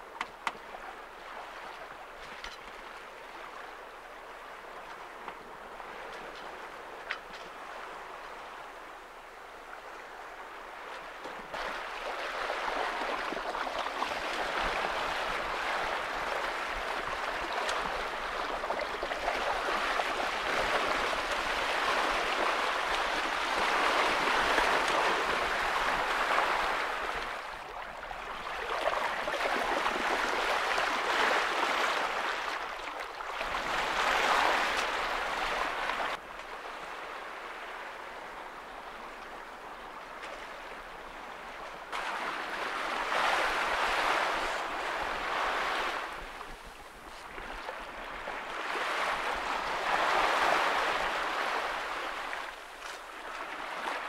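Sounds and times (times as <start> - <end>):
water rushing along a hull: 0.0 - 54.0.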